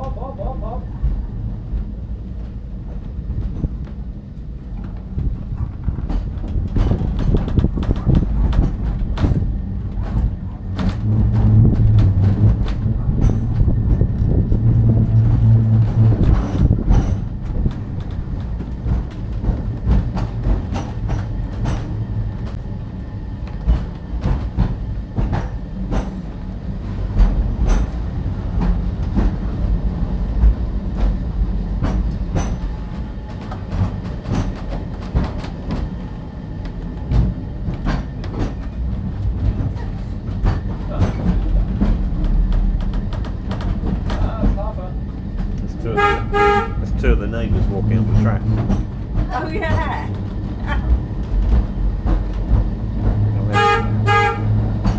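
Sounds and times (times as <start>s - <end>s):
tram low rumble: 0.0s - 54.9s
wheels clicking on rail: 1.0s - 54.9s.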